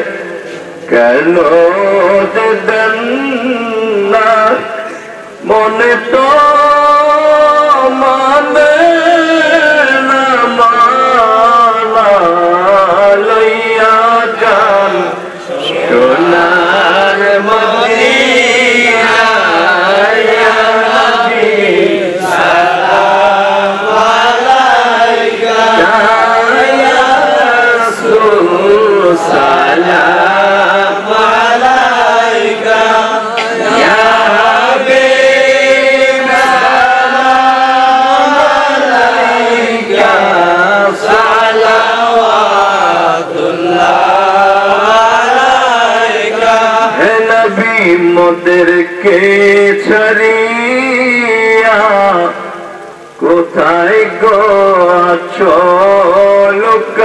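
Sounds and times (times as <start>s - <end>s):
man singing devotional song: 0.0s - 57.0s.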